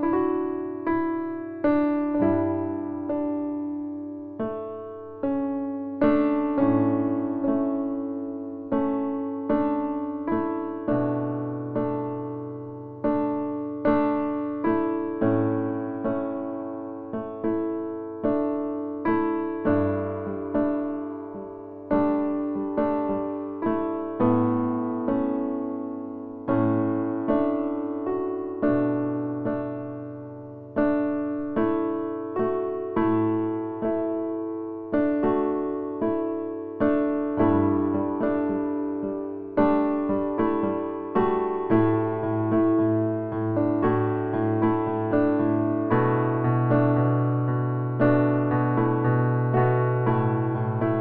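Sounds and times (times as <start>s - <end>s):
slow piano music: 0.0s - 51.0s.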